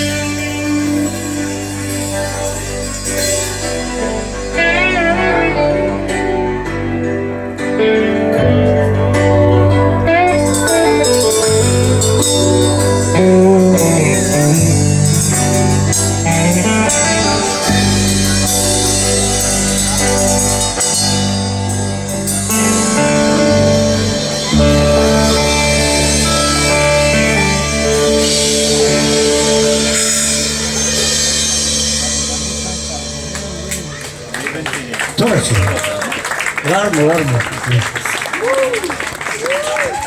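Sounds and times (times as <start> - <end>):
bass line: 0.0 - 34.4
guitar-led rock music: 0.0 - 35.8.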